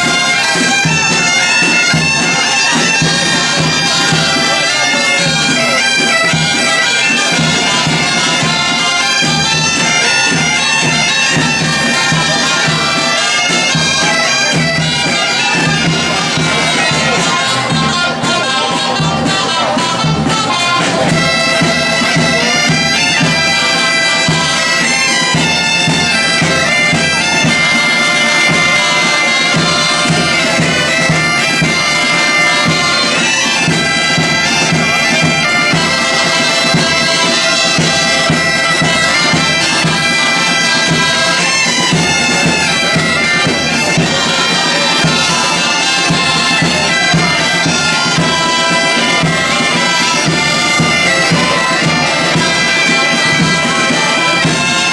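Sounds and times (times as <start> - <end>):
reed wind instruments playing: 0.0 - 54.9
regular drum beat: 0.0 - 54.9.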